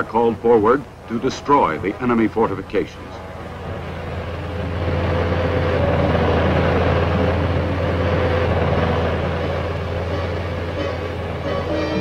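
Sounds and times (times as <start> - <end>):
tracked vehicle engine running hard: 0.0 - 12.0.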